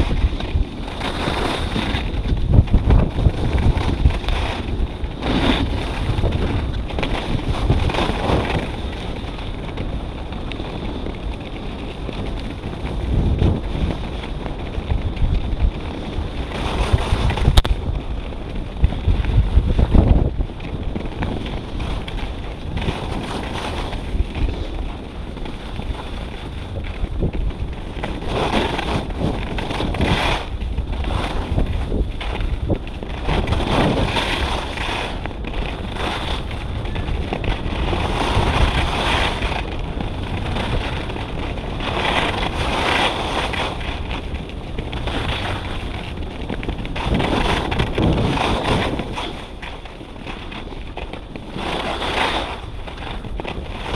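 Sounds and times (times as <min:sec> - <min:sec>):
skis scraping on snow: 0:00.0 - 0:53.9
wind rushing over microphone: 0:00.0 - 0:53.9.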